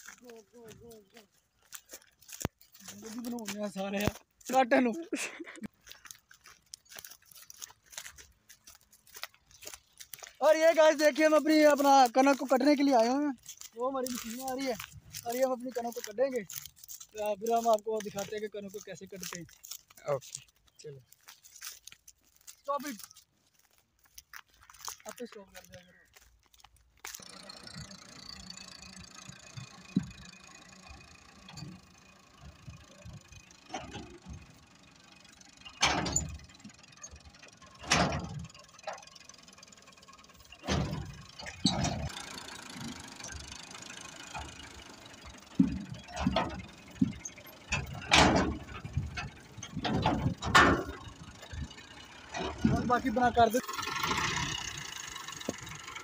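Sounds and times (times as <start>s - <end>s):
machinery rattling and clanking: 0.0s - 23.8s, 24.8s - 56.0s
tractor engine running: 0.0s - 56.0s.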